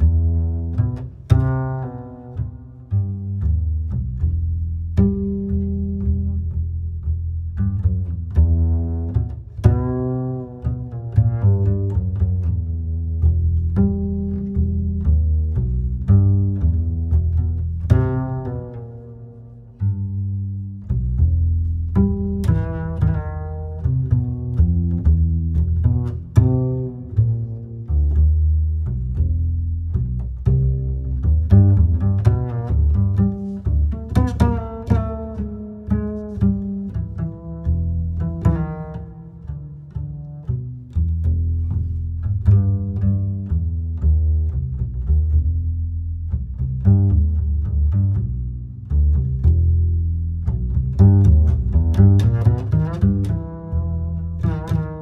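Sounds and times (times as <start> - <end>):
deep bass: 0.0 - 55.0
plucked string melody: 0.0 - 55.0.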